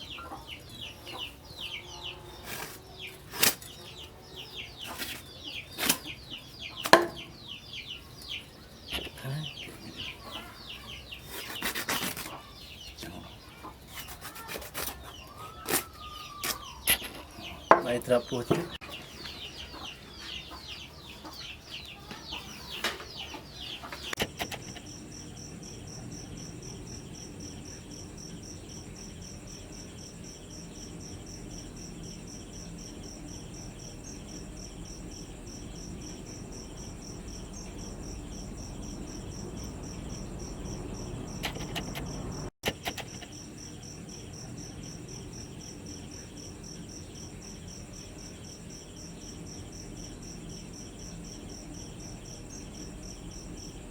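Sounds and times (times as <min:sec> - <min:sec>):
chickens clucking and peeping: 0:00.0 - 0:53.9
cricket chirring: 0:00.0 - 0:53.9.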